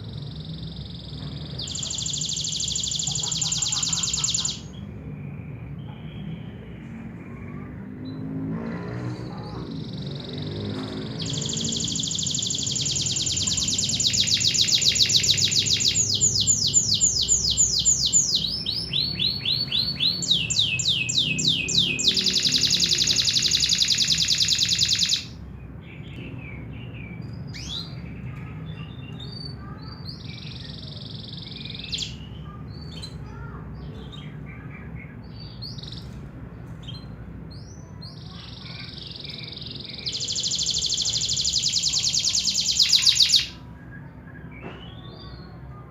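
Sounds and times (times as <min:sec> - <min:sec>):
canary trilling: 0:00.0 - 0:05.0, 0:08.2 - 0:25.5, 0:26.6 - 0:36.2, 0:36.8 - 0:43.7.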